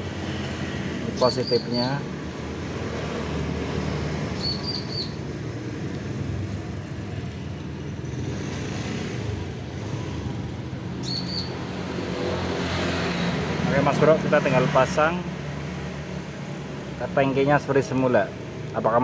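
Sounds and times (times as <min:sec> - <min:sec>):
background traffic rumble: 0:00.0 - 0:19.0.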